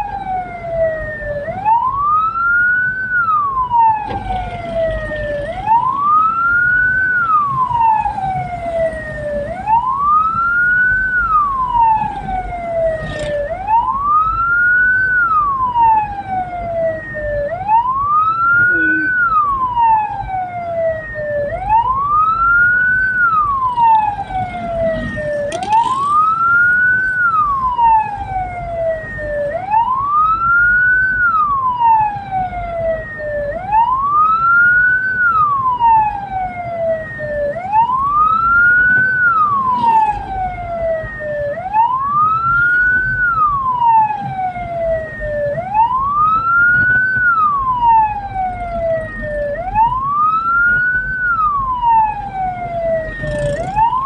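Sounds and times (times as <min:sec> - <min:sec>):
electronic siren wailing: 0:00.0 - 0:54.0
vehicle rumble: 0:00.0 - 0:54.0.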